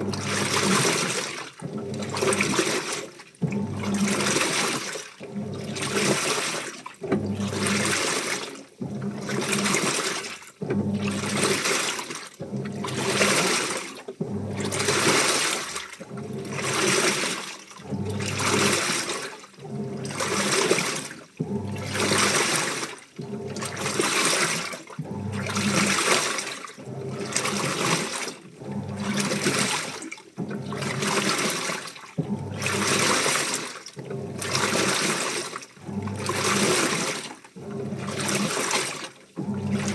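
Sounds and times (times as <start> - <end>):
washing machine motor hum: 0.0 - 39.9
washing machine water sloshing: 0.0 - 39.9.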